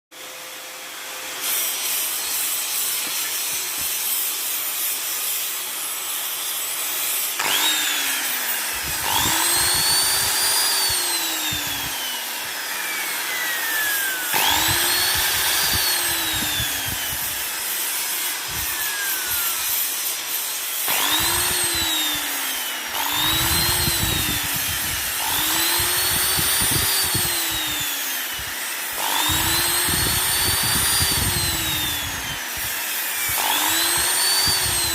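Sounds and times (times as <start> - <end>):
electric grinder motor whine: 0.2 - 34.9.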